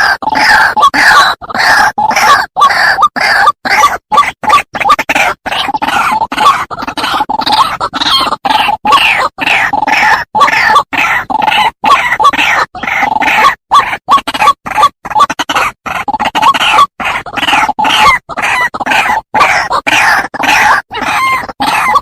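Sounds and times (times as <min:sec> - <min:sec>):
waterhen harsh croaking calls: 0:00.0 - 0:22.0.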